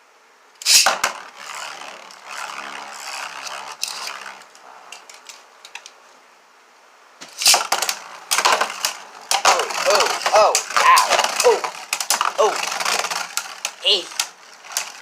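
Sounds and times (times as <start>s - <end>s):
spinning tops clashing: 0.6s - 5.8s, 7.2s - 15.0s
spinning tops launched with rip: 0.6s - 5.8s, 7.2s - 15.0s
spinning tops scraping and rattling: 0.6s - 6.0s, 7.2s - 15.0s.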